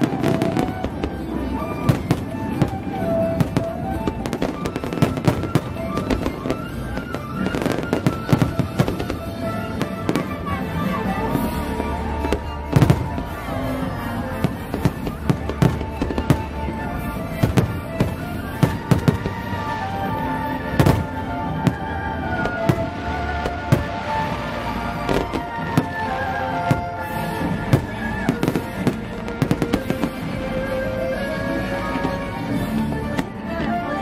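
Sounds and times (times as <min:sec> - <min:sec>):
fireworks bursting with sharp bangs: 0:00.0 - 0:34.0
music playing: 0:00.0 - 0:34.0.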